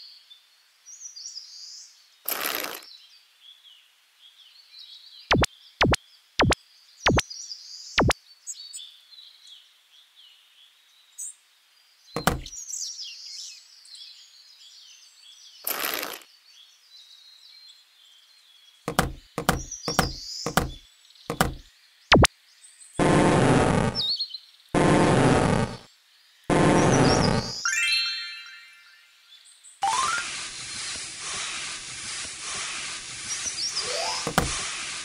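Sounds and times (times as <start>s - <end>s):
faint birdsong: 0.0s - 35.0s.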